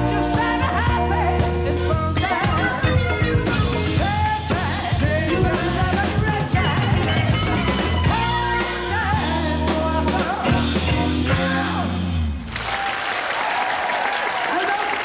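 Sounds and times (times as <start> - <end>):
male singer with rock band: 0.0 - 12.1.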